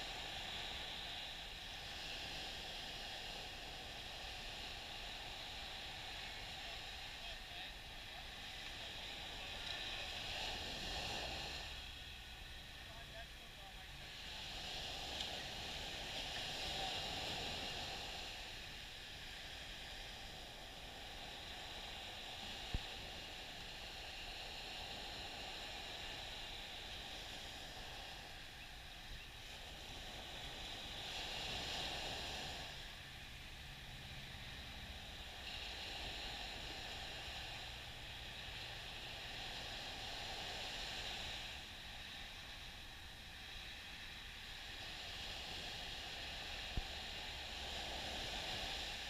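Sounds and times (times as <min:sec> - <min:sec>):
small waves washing on a beach: 0:00.0 - 0:49.0.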